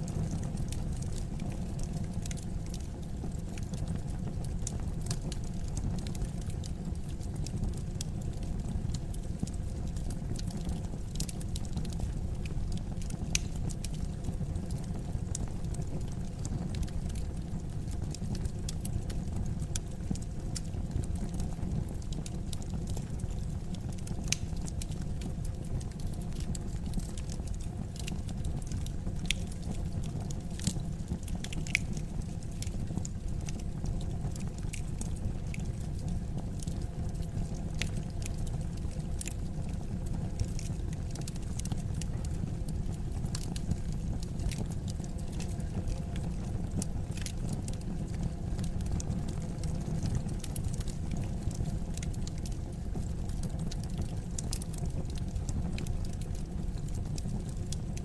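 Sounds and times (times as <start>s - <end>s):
low rumble of burning logs: 0.0s - 58.0s
wood fire crackling: 0.0s - 58.0s.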